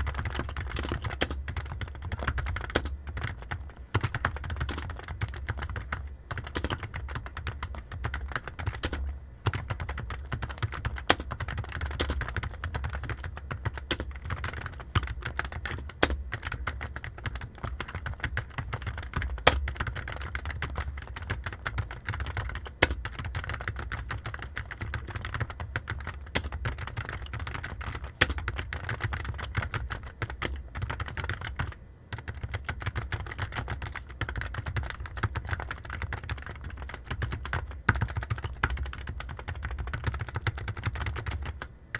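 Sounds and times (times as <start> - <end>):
typing on computer keyboard: 0.0 - 41.7
low steady hum: 0.0 - 41.9.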